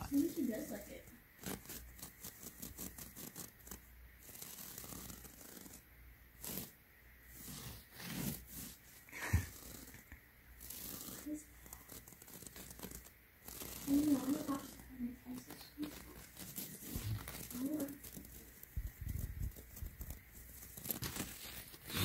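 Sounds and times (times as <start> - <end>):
fingers scratching a surface: 0.0 - 22.0
scratchy rustles: 0.0 - 22.0.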